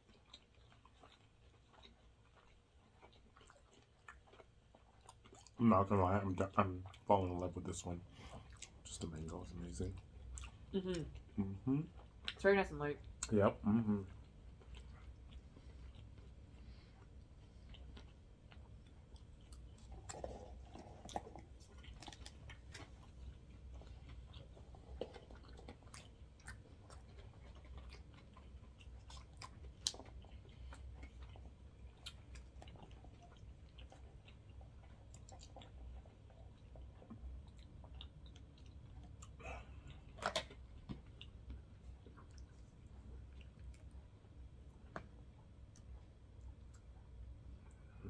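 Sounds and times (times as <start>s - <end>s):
people chewing: 0.0s - 48.0s.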